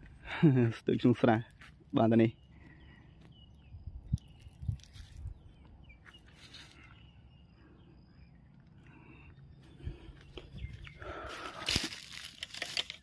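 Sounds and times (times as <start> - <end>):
small birds chirping: 0.0 - 12.7.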